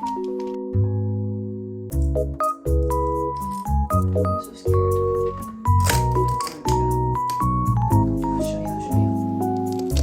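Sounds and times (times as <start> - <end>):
held keyboard chords: 0.0 - 10.0.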